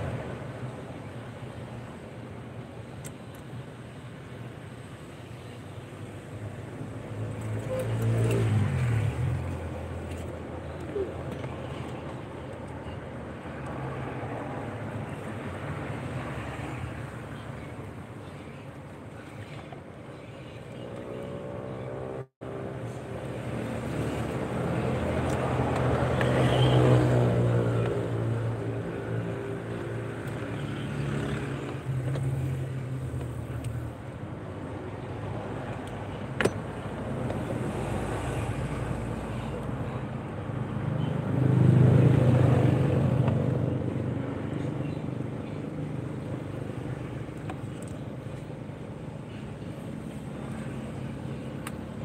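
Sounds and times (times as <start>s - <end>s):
traffic rumble: 0.0s - 52.0s.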